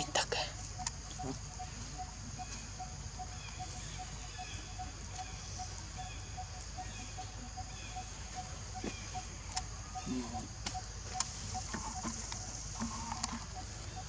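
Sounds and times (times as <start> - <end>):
faint chirps: 0.0 - 14.0
high insect drone: 0.0 - 14.0.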